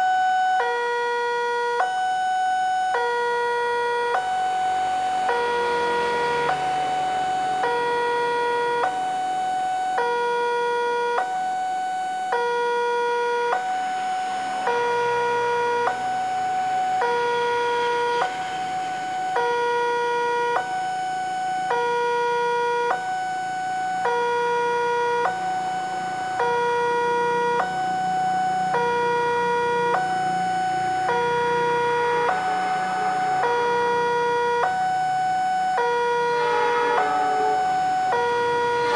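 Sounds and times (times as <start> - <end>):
two-tone level crossing alarm: 0.0 - 38.9.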